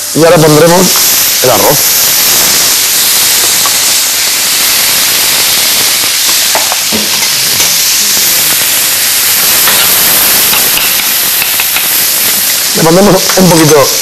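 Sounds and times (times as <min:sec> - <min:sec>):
vegetables sizzling in frying pan: 0:00.0 - 0:14.0.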